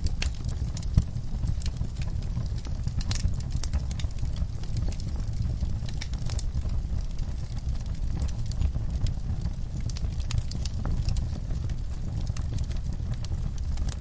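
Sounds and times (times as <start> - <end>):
fire pops and snaps: 0.0 - 14.0
wood fire crackling: 0.0 - 14.0.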